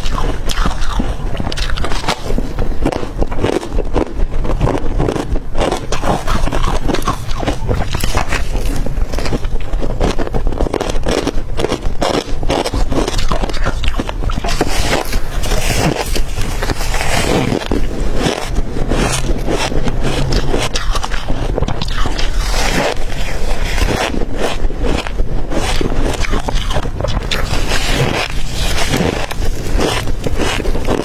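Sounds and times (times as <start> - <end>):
ice crunching: 0.0 - 31.0.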